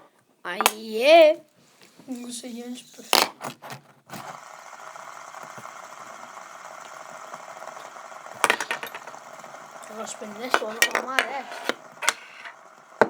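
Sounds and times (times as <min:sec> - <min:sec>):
fidget spinner bearing whirring: 0:02.1 - 0:13.0.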